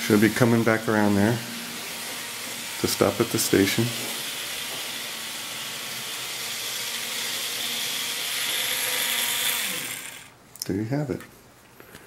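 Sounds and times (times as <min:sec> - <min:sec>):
model locomotive motor whir: 0:00.0 - 0:10.4.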